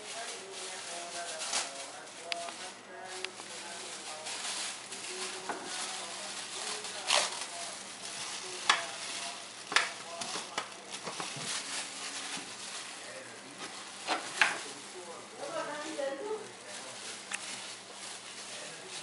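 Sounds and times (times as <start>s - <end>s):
plastic gloves and bag rustling: 0.0s - 19.0s.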